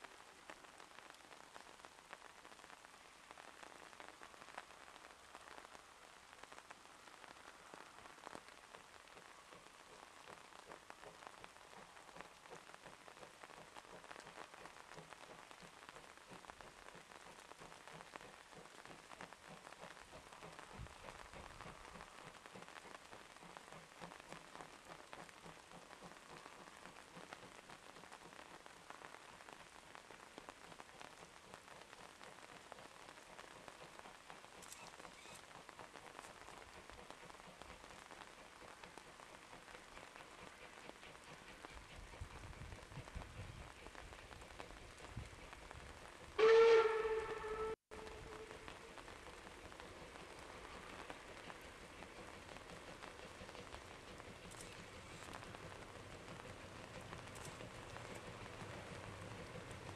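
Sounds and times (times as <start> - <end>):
faint hiss with fine crackling: 0.0 - 59.9.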